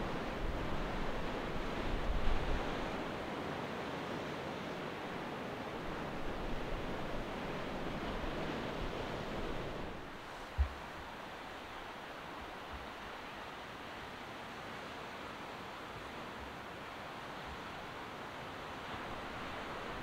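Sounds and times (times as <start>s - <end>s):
choppy sea: 0.0s - 20.0s.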